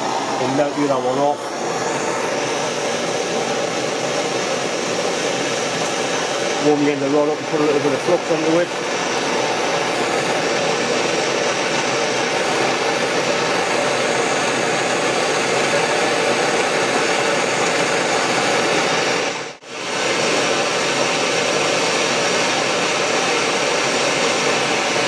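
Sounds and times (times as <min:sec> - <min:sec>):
gas torch flame roaring: 0:00.0 - 0:25.0.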